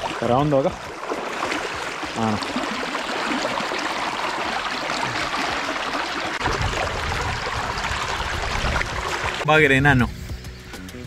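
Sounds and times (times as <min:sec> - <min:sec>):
stream water rushing: 0:00.0 - 0:09.5.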